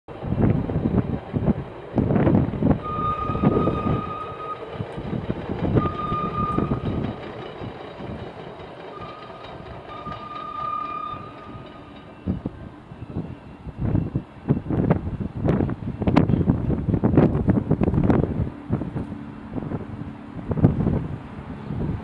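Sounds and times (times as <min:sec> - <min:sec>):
wind gusts on microphone: 0:00.1 - 0:08.5, 0:11.2 - 0:22.0
train running past: 0:00.1 - 0:22.0.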